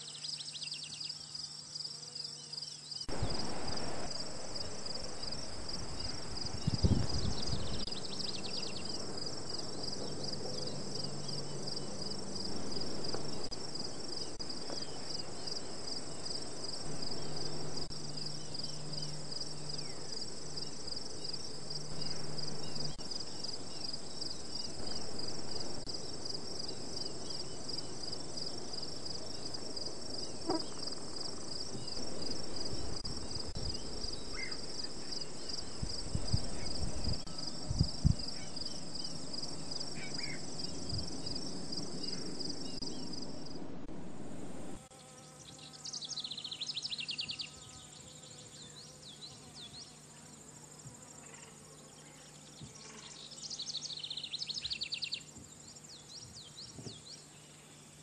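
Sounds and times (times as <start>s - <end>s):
insects trilling: 0.0s - 43.6s, 44.2s - 58.0s.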